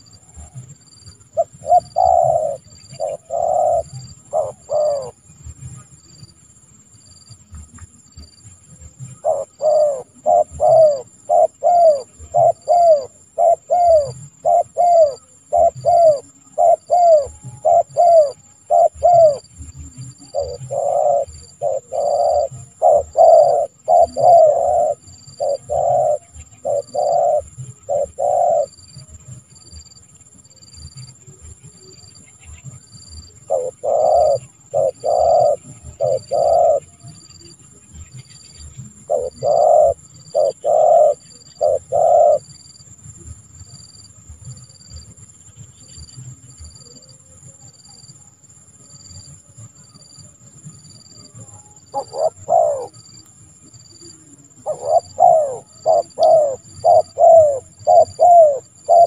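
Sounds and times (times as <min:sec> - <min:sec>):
dove cooing: 0:00.0 - 0:06.3, 0:07.0 - 0:48.1, 0:48.9 - 0:59.0.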